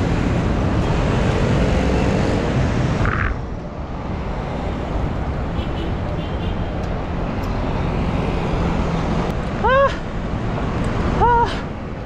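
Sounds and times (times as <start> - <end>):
city traffic passing: 0.0 - 12.0.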